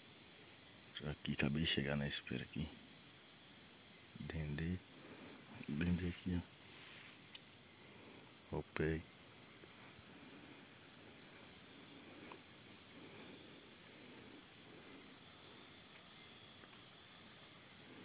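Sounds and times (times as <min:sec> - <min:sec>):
insects chirping chorus: 0:00.0 - 0:18.0
loud insect calling in bursts: 0:02.5 - 0:17.7.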